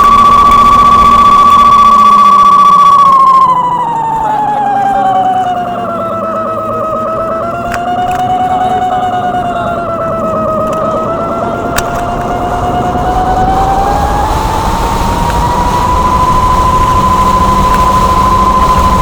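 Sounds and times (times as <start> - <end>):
steady rushing noise: 0.0 - 19.0
wavering electronic tone: 0.0 - 19.0.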